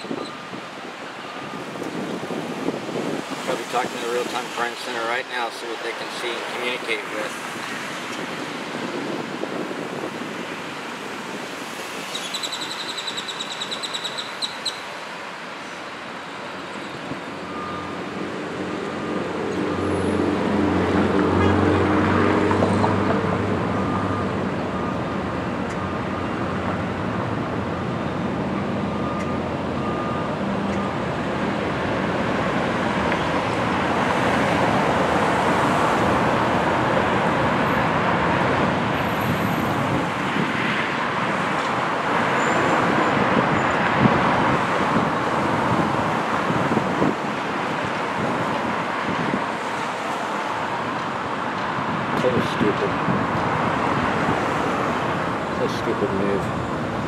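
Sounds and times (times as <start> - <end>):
traffic road noise: 0.0 - 57.0.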